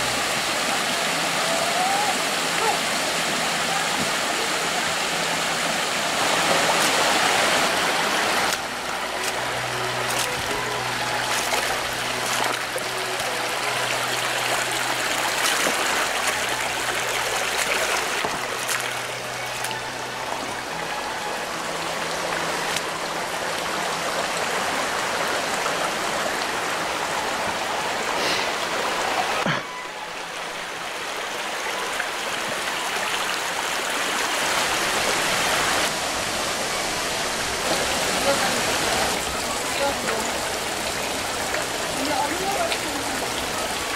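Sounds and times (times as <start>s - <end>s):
rushing stream water: 0.0s - 43.9s.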